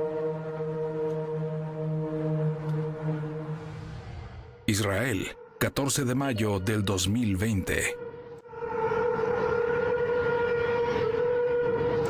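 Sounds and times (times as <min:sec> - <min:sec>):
droning horn-like tone: 0:00.0 - 0:12.0.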